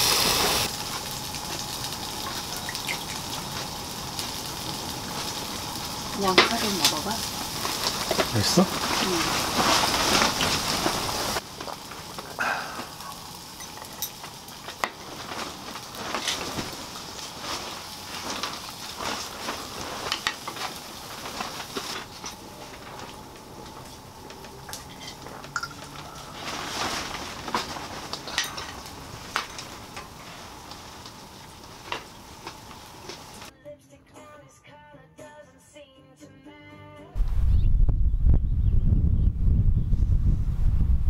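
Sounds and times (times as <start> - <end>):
food sizzling on a grill: 0.0 - 33.5.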